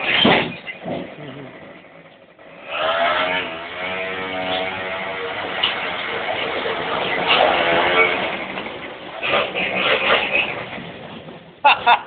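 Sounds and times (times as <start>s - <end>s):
quad bike engine revving: 0.0s - 11.5s.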